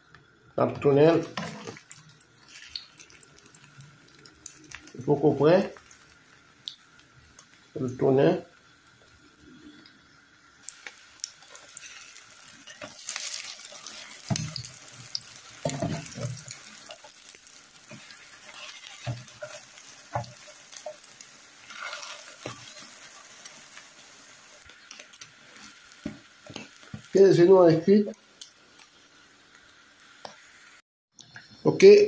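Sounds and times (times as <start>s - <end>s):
omelette sizzling in oil: 0.0s - 30.8s.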